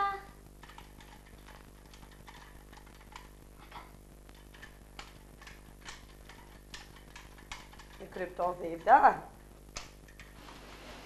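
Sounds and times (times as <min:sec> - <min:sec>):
faint clicks and taps: 0:00.4 - 0:10.4.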